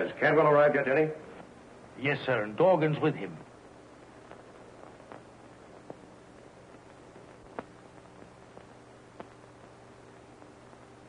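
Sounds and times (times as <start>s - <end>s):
film soundtrack hiss and hum: 0.0s - 11.0s.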